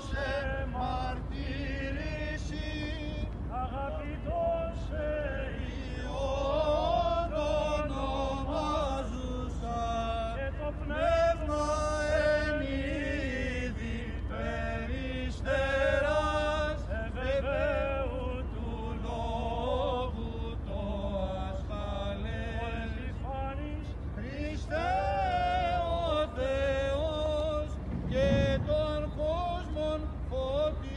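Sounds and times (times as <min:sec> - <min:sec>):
men singing unaccompanied chant: 0:00.0 - 0:30.9
steady low rumble: 0:00.0 - 0:30.9.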